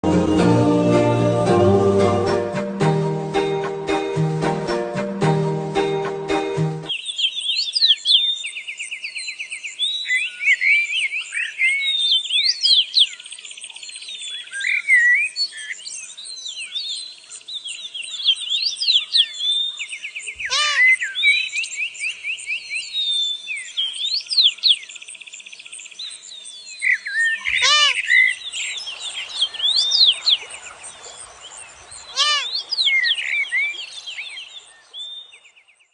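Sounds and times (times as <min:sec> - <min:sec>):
songbirds chirping and trilling: 0:06.8 - 0:35.9.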